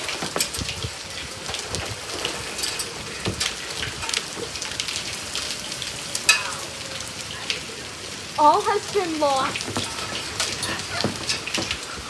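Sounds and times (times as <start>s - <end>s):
rain falling: 0.0s - 12.0s
raindrops hitting a surface: 0.0s - 12.0s.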